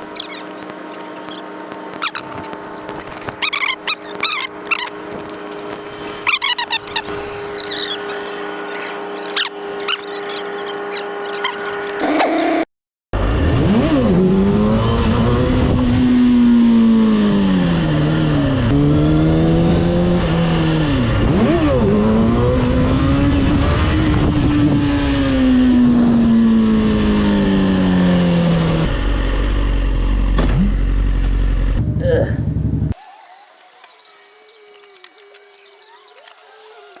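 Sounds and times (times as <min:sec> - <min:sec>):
motorcycle engine: 0:00.0 - 0:33.1.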